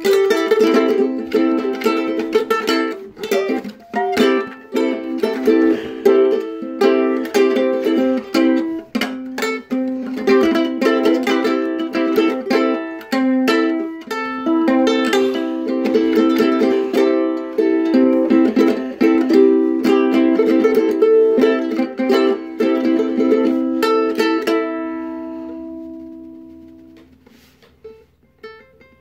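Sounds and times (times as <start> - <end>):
ukulele playing: 0.0 - 29.0.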